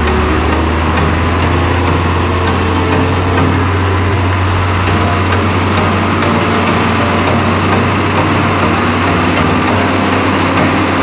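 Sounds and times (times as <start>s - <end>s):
heavy machinery diesel engines: 0.0s - 11.0s.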